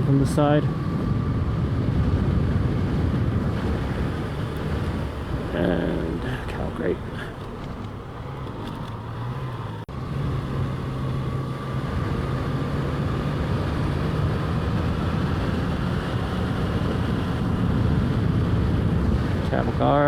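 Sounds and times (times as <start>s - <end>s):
motorcycle engine accelerating: 0.0s - 20.0s
wind rush on microphone: 0.0s - 20.0s.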